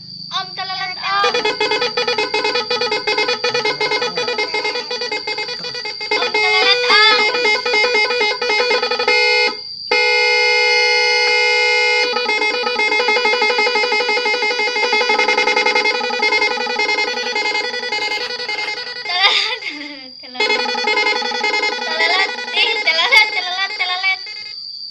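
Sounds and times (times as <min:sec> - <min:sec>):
musical bus horn tune: 0:00.0 - 0:24.5.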